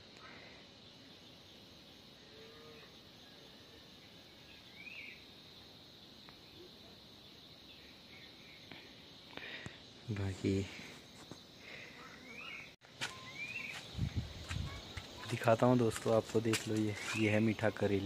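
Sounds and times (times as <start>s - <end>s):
high insect hum: 0.0s - 18.0s.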